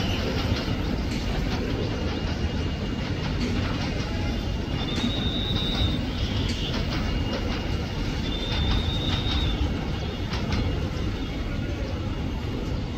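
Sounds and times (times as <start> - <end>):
wheels clacking over rail joints: 0.0 - 11.9
train rumbling on tracks: 0.0 - 12.9.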